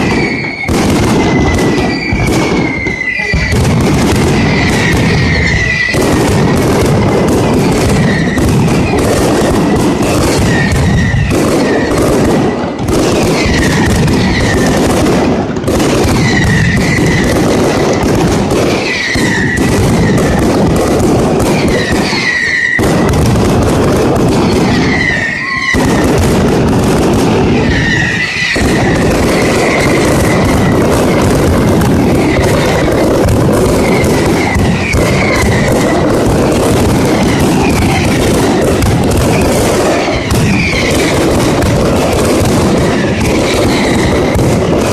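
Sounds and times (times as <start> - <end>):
firecrackers cracking and banging: 0.0 - 44.9.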